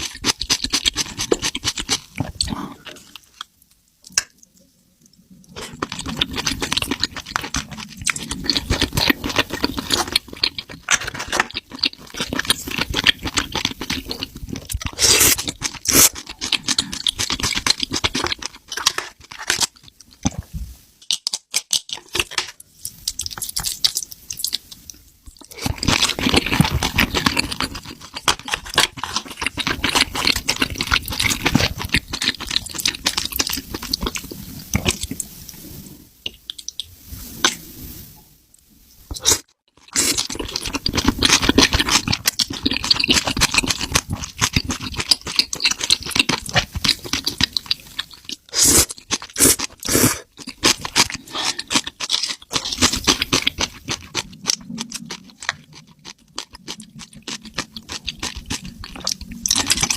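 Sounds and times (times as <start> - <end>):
chewing and crunching food: 0.0 - 37.6, 39.1 - 59.9.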